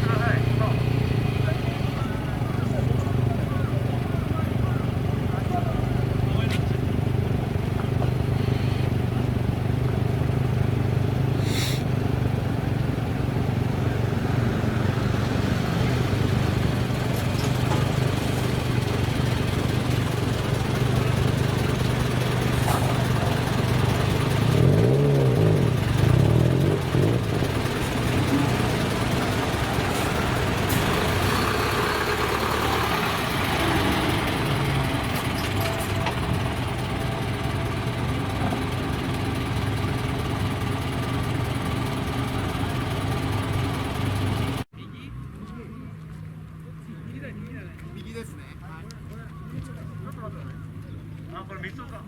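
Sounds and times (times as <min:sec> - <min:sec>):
sports car engine idling and revving: 0:00.0 - 0:47.8.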